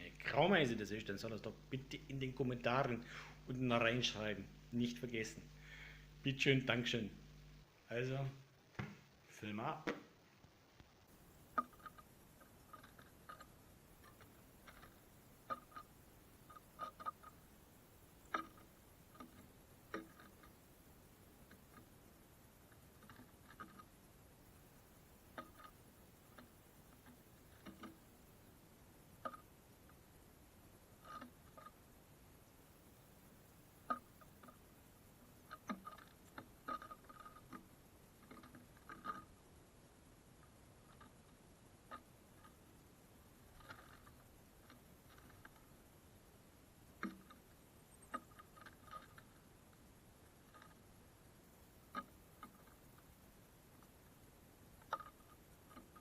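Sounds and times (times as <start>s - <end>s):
birds pecking at wooden feeder: 10.3s - 39.4s, 40.2s - 56.0s.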